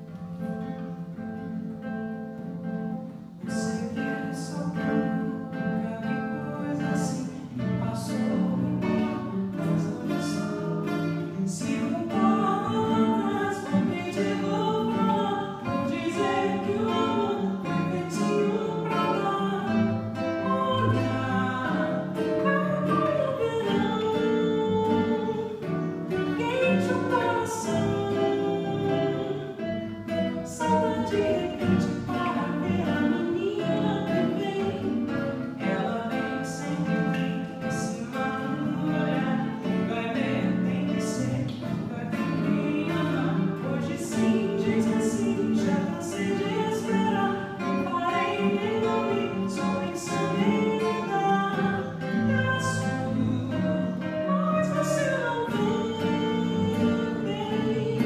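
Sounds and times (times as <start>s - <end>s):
acoustic guitars strumming: 0.0s - 58.0s
woman singing: 3.3s - 58.0s.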